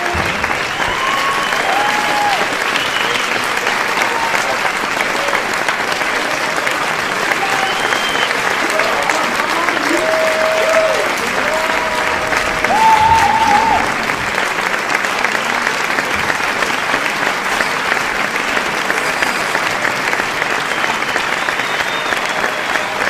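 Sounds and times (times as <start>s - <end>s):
audience applauding: 0.0s - 23.0s
crowd cheering: 0.0s - 23.0s.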